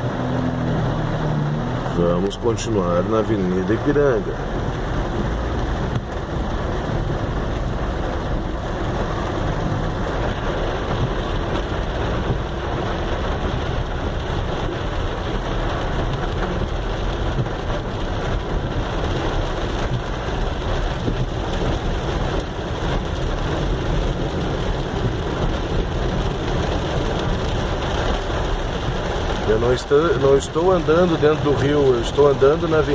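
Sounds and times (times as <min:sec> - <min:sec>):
car driving through flood water: 0:00.0 - 0:32.9
heavy rain on a car: 0:00.0 - 0:32.9.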